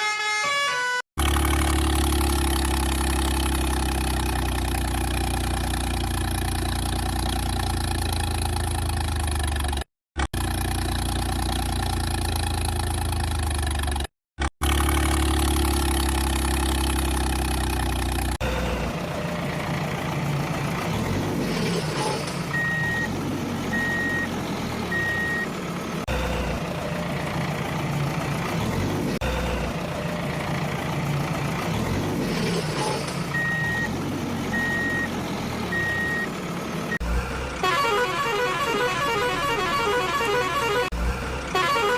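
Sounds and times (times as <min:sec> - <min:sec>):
heavy truck engine running: 0:01.2 - 0:41.9.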